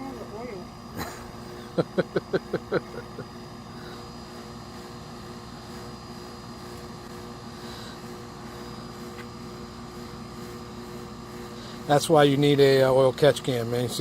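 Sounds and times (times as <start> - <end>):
machine hum with held tones: 0.0 - 14.0.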